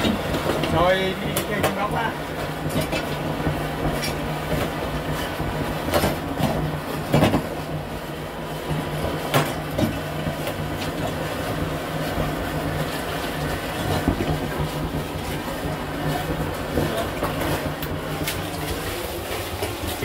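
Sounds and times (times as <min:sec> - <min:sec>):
vacuum pump drone: 0:00.0 - 0:20.0.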